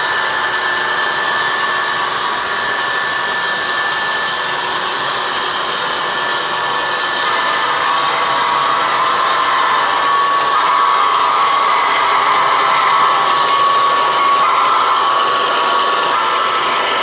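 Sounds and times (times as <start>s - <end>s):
model train whirring on track: 0.0s - 17.0s.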